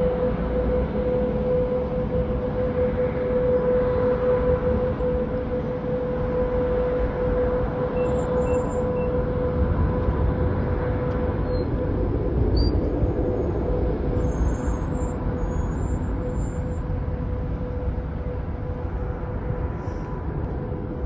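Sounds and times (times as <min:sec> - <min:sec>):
jet engine rumble and whine: 0:00.0 - 0:21.0.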